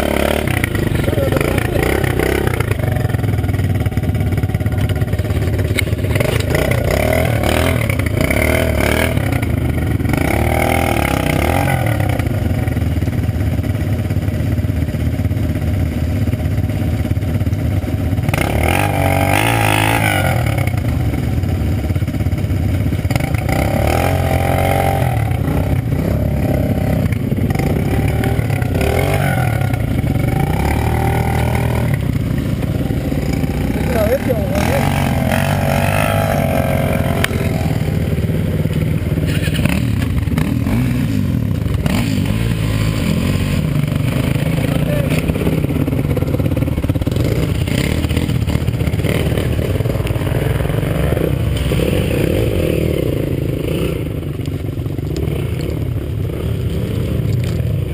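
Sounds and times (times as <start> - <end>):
quad bike engine revving: 0.0 - 57.9
quad bike engine running steadily: 0.0 - 57.9.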